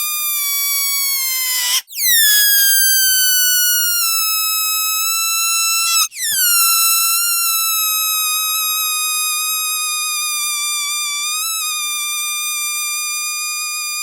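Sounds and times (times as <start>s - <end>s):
shrill buzzy high-pitched tone: 0.0s - 14.0s.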